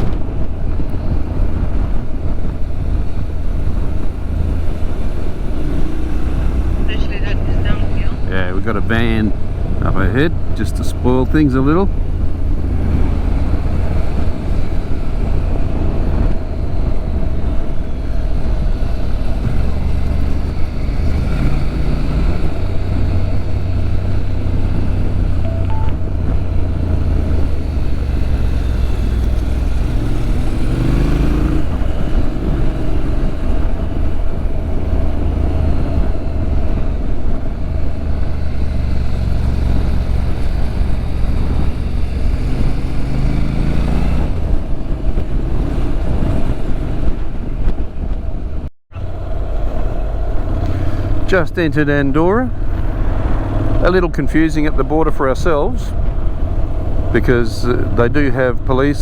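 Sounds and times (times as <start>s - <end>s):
wind rumbling on microphone: 0.0s - 7.0s, 7.6s - 59.0s
motorcycle engine: 0.0s - 59.0s.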